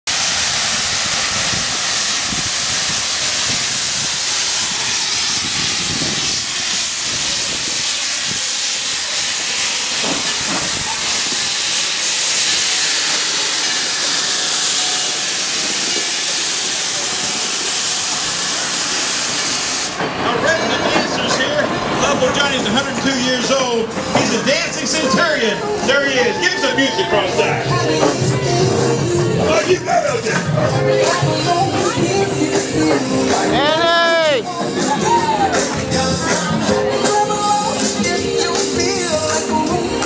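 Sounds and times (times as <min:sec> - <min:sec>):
steam locomotive hissing steam: 0:00.0 - 0:40.0.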